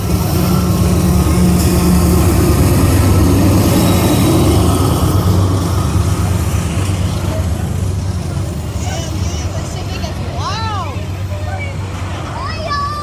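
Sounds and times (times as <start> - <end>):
diesel locomotive engine hum: 0.0 - 13.0
steel train wheels rolling: 0.0 - 13.0.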